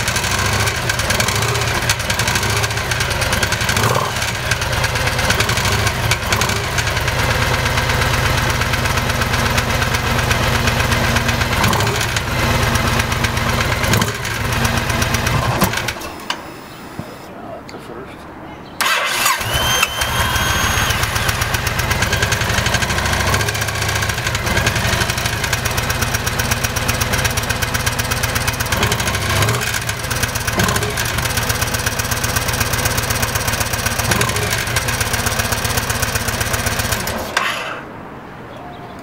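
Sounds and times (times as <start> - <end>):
motorcycle engine idling: 0.0 - 17.2, 18.8 - 37.9.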